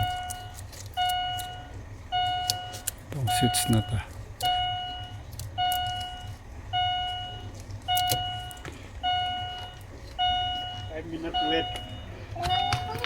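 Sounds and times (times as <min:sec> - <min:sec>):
car warning chime dinging: 0:00.0 - 0:13.0
steady low hum: 0:00.0 - 0:13.0.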